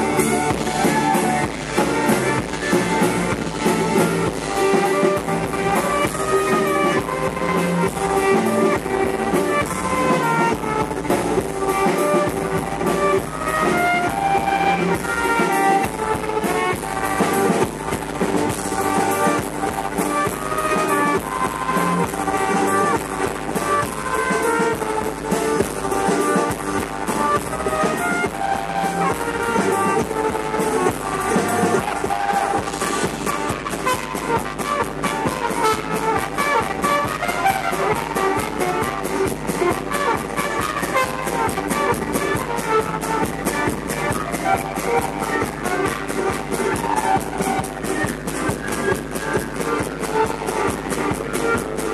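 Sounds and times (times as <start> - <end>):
drum kit: 0.0 - 51.9
trumpet lead: 0.0 - 51.9
upright double bass: 0.0 - 51.9.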